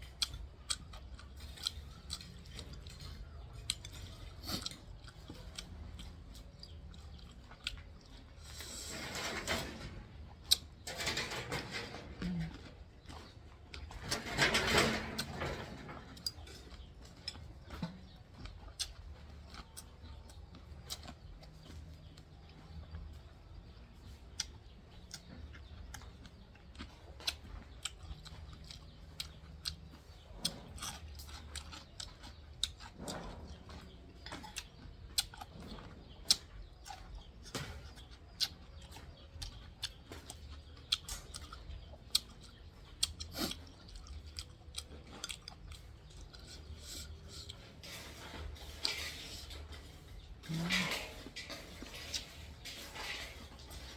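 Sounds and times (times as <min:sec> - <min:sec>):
person chewing: 0:00.0 - 0:08.9, 0:16.0 - 0:53.9.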